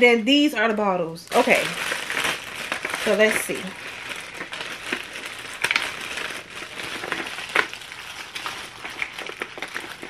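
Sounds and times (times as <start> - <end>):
plastic bag crinkling: 1.3 - 10.0
sharp plastic crackles: 1.3 - 10.0.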